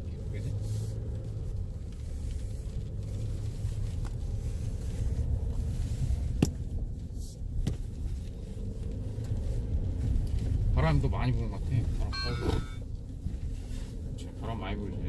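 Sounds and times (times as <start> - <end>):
diesel engine rumble: 0.0 - 15.0
tyres on gravel road: 0.0 - 15.0.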